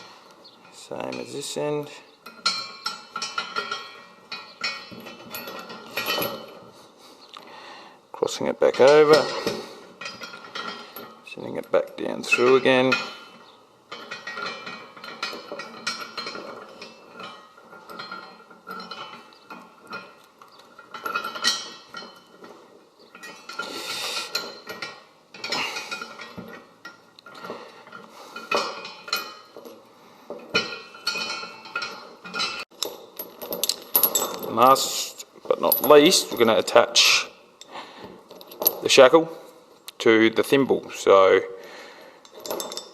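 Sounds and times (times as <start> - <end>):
metal chain and wire clinking: 0.0 - 6.9, 8.4 - 39.5, 42.1 - 42.9.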